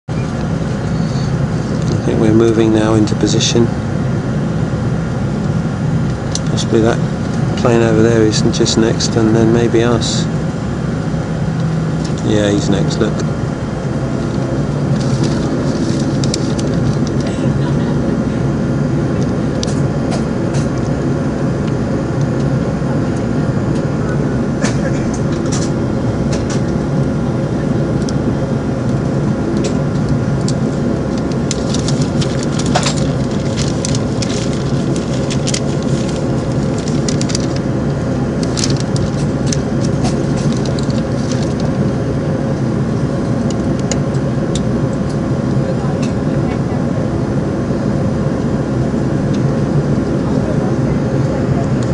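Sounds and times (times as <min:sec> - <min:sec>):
idling jet engines and cabin air hum: 0:00.0 - 0:51.9.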